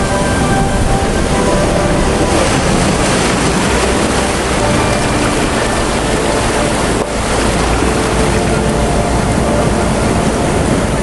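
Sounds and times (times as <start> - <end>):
rushing floodwater: 0.0 - 11.0.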